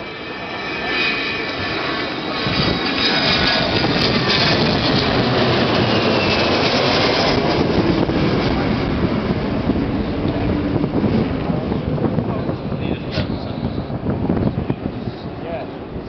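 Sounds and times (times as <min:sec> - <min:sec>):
faint jet whine dropping in pitch: 0:00.0 - 0:16.0
jet aircraft roar overhead: 0:00.0 - 0:16.0.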